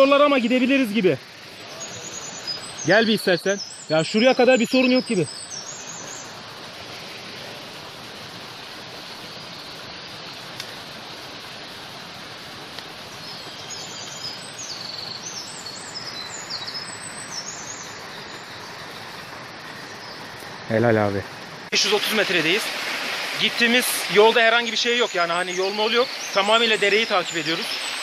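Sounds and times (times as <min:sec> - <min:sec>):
flowing creek water: 0:00.0 - 0:28.0
small birds chirping: 0:00.0 - 0:28.0.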